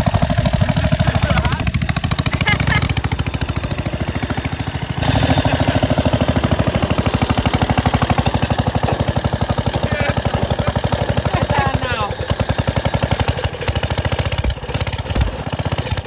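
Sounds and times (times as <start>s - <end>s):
lawn tractor engine over-revving: 0.0s - 16.0s.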